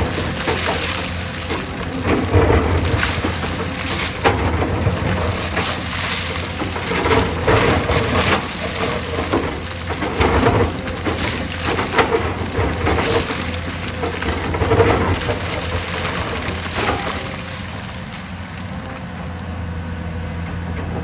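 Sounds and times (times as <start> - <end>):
excavator diesel engine running: 0.0 - 21.0
rock and dirt crunching: 0.0 - 21.0.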